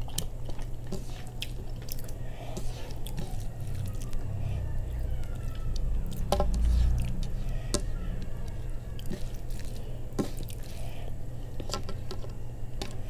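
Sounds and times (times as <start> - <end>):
hand squelching rice and curry: 0.0 - 11.7
low steady hum: 0.0 - 13.0.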